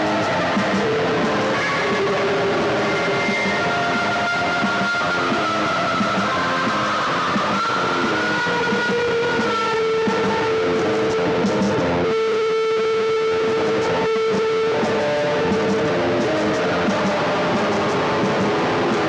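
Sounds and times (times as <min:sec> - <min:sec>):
guitar instrumental: 0:00.0 - 0:19.0.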